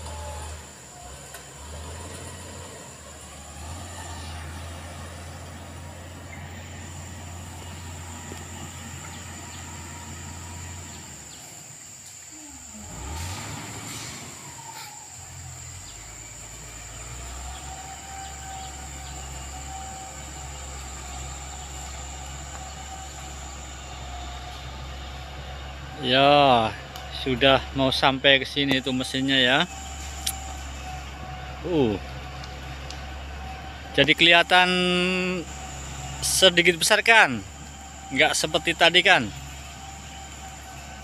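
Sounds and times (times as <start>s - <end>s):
distant diesel engine drone: 0.0s - 41.0s.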